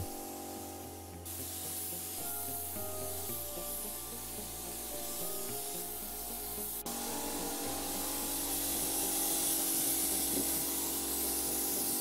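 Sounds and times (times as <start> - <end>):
spray gun hissing: 0.0 - 12.0.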